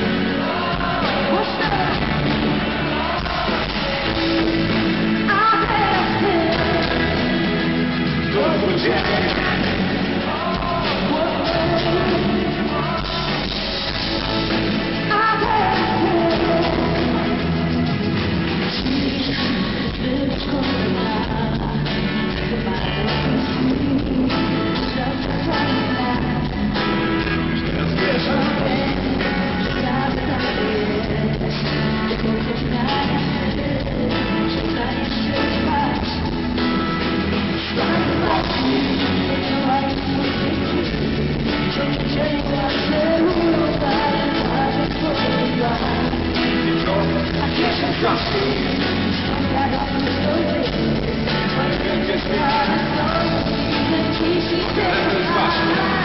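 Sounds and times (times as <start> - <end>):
drums: 0.0 - 56.0
electric guitar: 0.0 - 56.0
keyboards: 0.0 - 56.0
man and woman singing: 0.0 - 56.0.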